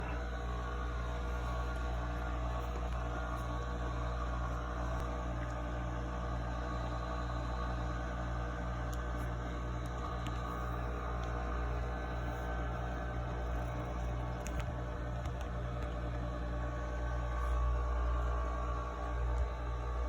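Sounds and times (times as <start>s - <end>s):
dishwasher motor hum: 0.0s - 20.0s.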